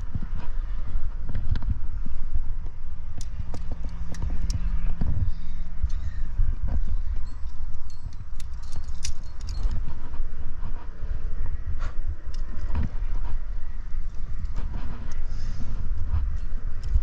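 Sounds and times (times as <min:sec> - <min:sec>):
climbing gear clinking: 0:00.0 - 0:17.0
wind rumbling on microphone: 0:00.0 - 0:17.0.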